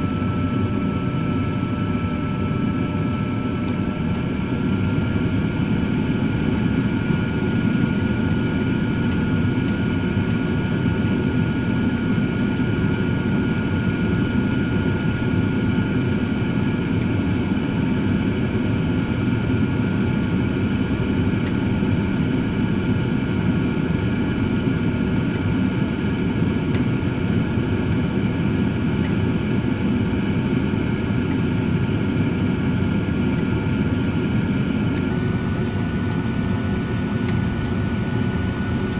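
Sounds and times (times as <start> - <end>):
air fryer fan blowing: 0.0 - 38.9.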